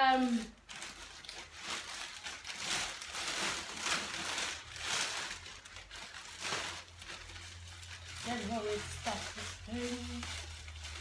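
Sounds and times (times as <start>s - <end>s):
clothes rustling: 0.2s - 11.0s.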